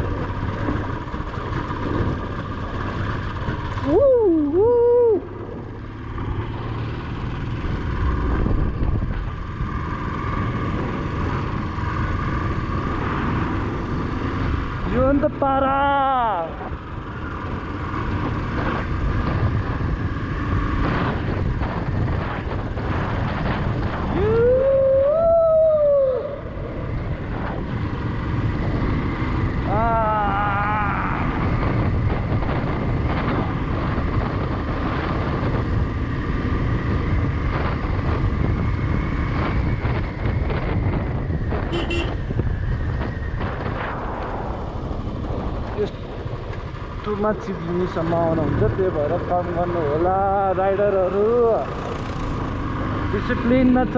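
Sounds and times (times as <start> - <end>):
motorcycle engine running: 0.0 - 53.9
wind rumbling on microphone: 0.0 - 53.9.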